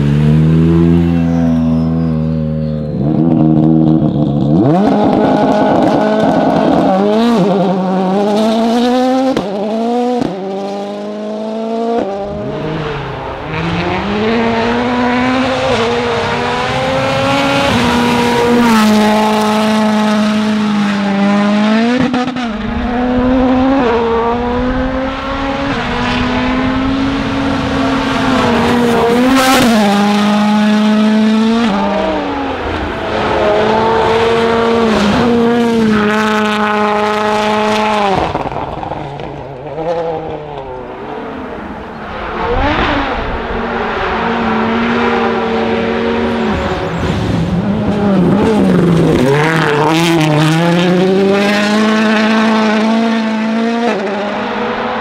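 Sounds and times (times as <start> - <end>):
rally car engine at full throttle: 0.0 - 55.0.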